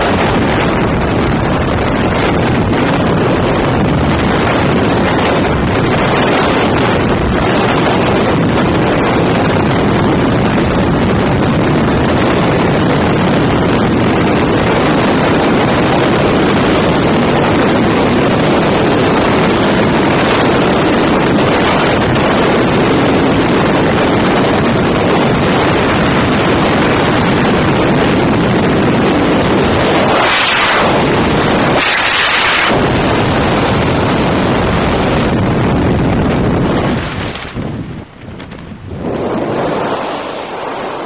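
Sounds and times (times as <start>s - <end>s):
freefall wind roaring on microphone: 0.0s - 41.0s.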